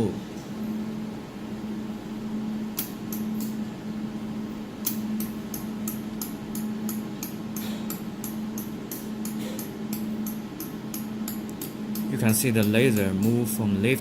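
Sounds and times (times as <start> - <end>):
laser welding machine humming: 0.0 - 14.0.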